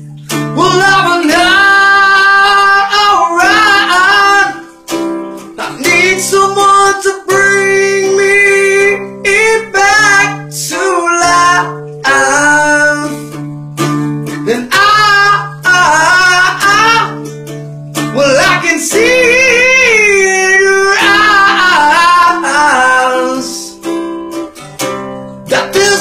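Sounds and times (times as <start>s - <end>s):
person singing: 0.0s - 13.4s, 14.2s - 24.0s, 25.4s - 26.0s
acoustic guitar: 0.0s - 26.0s.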